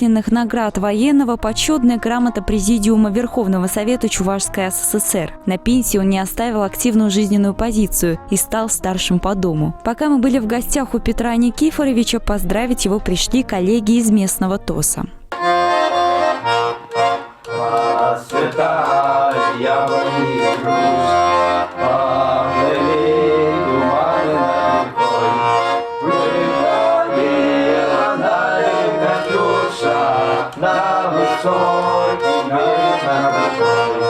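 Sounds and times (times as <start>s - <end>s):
accordion playing a tune: 0.0s - 34.0s.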